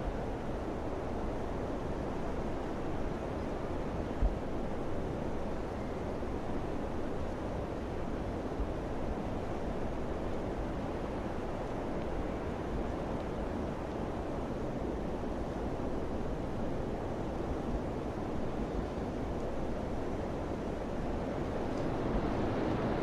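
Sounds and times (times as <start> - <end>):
wind gusts rumbling on microphone: 0.0 - 23.0.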